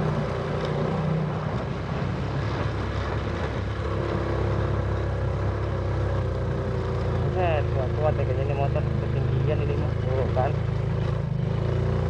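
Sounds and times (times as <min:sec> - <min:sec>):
scooter engine running under load: 0:00.0 - 0:12.0.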